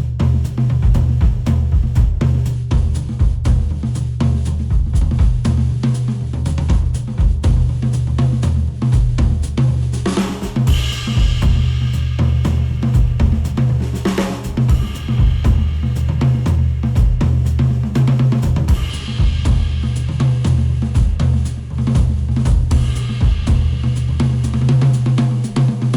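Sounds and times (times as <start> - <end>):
drum kit: 0.0 - 25.9
heavy bass: 0.0 - 25.9.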